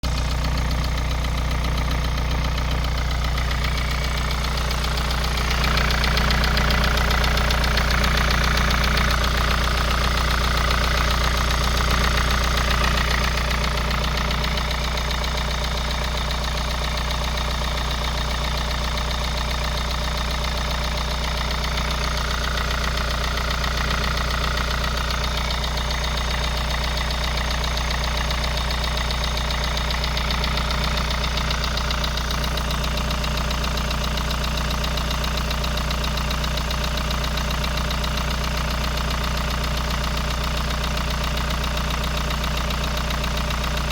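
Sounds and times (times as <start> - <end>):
engine idling with knock: 0.0 - 43.9.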